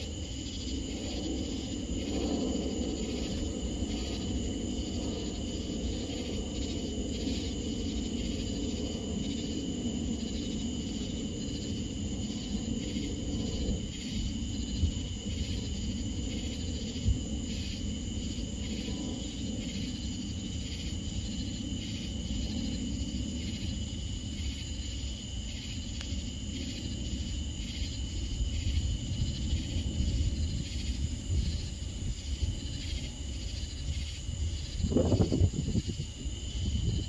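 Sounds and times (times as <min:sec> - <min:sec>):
crickets trilling: 0:00.0 - 0:37.0
pulsing insect call: 0:00.0 - 0:37.0.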